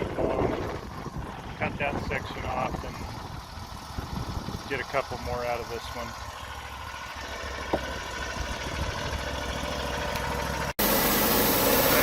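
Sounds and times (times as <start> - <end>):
sawmill engine idling: 0.0 - 12.0.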